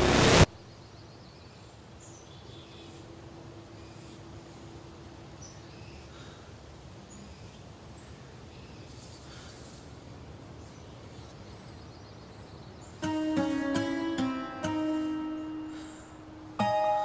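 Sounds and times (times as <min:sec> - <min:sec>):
low steady background: 0:00.0 - 0:17.0.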